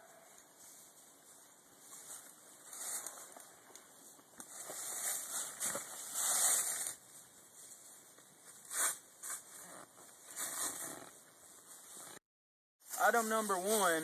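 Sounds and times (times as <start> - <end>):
backpack rustling on dry leaves: 0.4 - 12.1.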